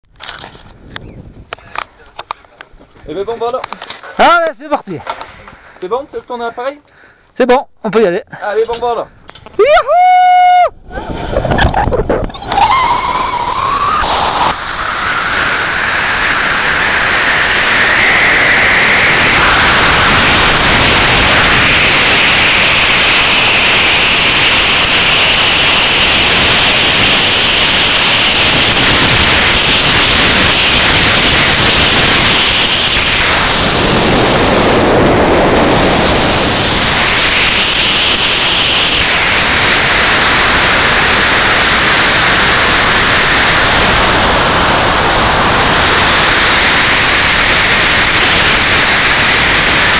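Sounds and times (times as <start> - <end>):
wind rushing on microphone: 0.1 - 3.6, 10.7 - 49.9
zip-line trolley whine: 9.4 - 49.9.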